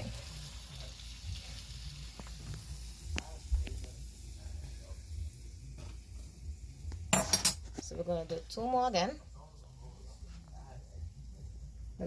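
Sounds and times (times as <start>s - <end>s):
dough frying in hot oil: 0.0s - 12.0s.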